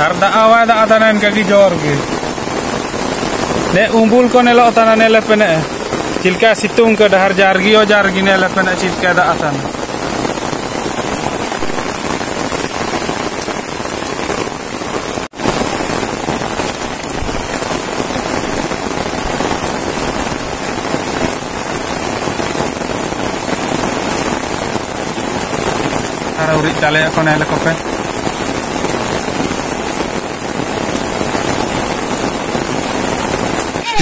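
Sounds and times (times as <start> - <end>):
rain on an umbrella: 0.0 - 34.0.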